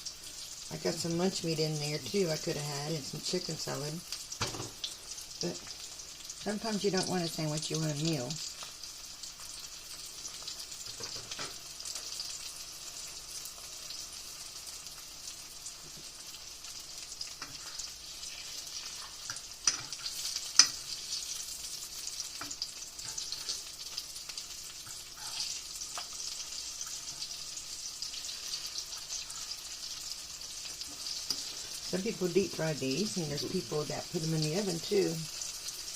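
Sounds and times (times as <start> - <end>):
food sizzling in hot oil: 0.0 - 35.9.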